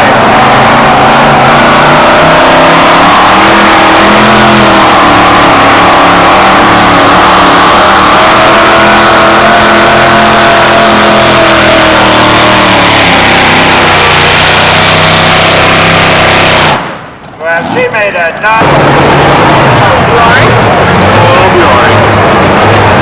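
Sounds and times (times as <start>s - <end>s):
pulling truck engine at high revs: 0.0s - 17.2s, 18.5s - 23.0s.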